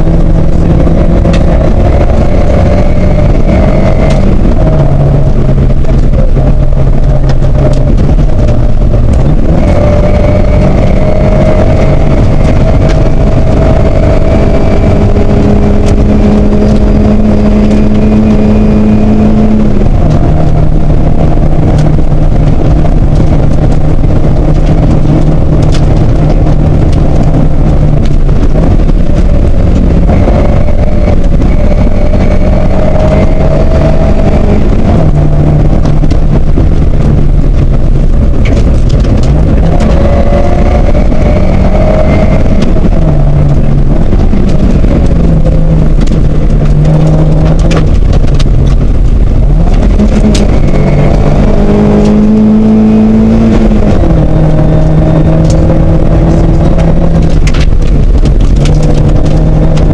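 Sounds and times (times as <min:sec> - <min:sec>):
rally car engine revving: 0:00.0 - 0:59.9
tyre and road noise: 0:00.0 - 0:59.9.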